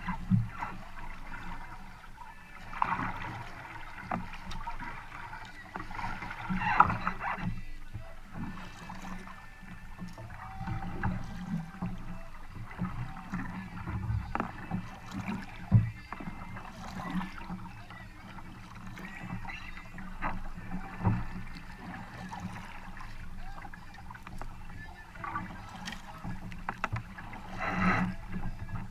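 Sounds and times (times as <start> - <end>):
kayak paddle splashing: 0.0 - 28.9
water trickling off hull: 0.0 - 28.9.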